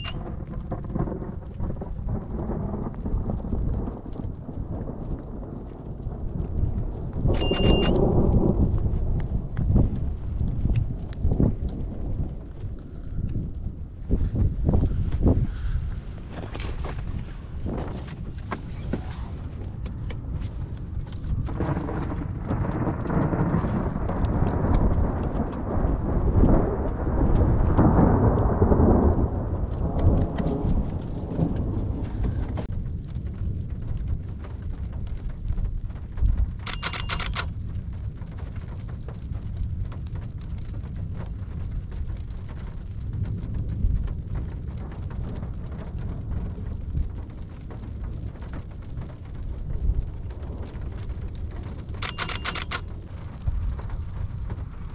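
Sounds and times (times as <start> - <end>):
thunder rumbling: 0.0 - 54.9.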